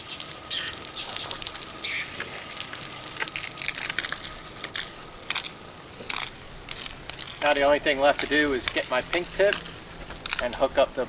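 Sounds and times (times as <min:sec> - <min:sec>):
water gushing from spray gun: 0:00.0 - 0:11.0.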